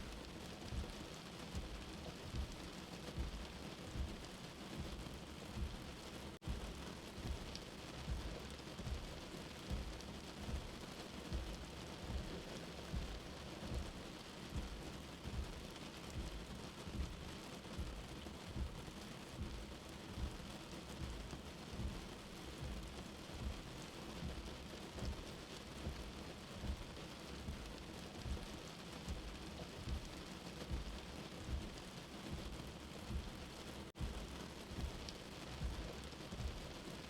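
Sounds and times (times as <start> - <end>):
low heartbeat thump: 0.0 - 36.8
soft rain: 0.0 - 37.0.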